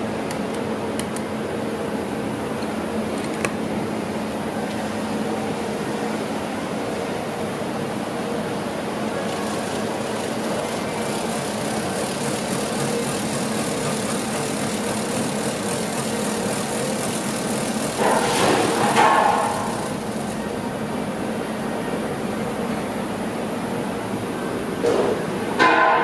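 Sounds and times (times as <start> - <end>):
machinery humming and hissing: 0.0 - 26.0.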